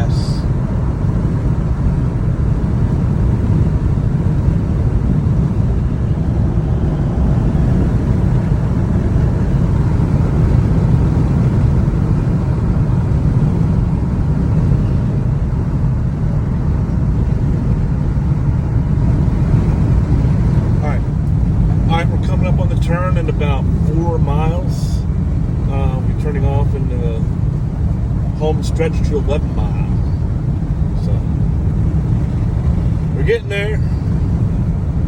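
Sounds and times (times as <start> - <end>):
road and engine rumble in cab: 0.0 - 35.0.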